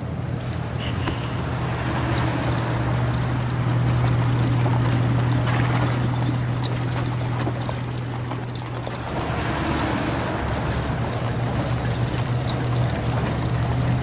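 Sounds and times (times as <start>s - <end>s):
vehicle engine drone: 0.0s - 14.0s.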